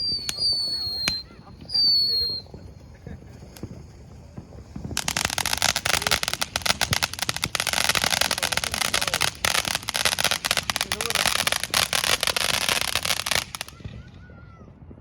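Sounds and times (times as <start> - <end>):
fireworks crackling: 0.0 - 14.9.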